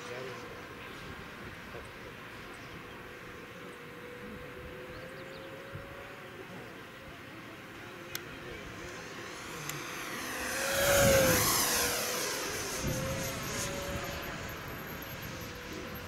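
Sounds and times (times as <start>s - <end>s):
model jet whine passing: 0.0s - 16.0s.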